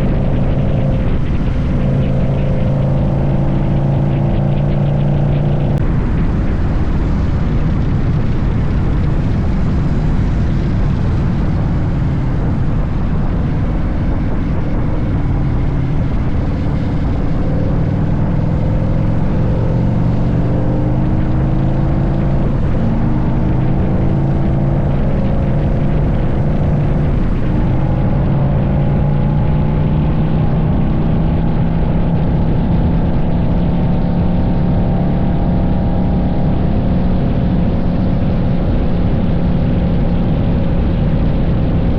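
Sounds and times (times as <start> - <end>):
motorcycle engine running: 0.0 - 41.9
wind noise: 0.0 - 41.9.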